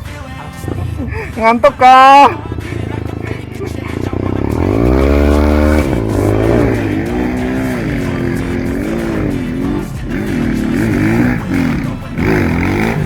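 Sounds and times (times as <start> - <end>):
motorcycle engine revving: 1.7 - 13.0.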